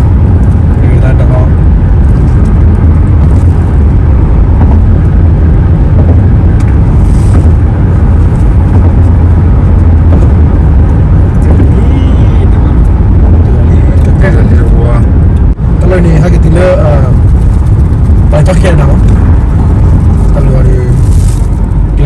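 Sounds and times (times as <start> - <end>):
car road rumble from inside: 0.0 - 22.0.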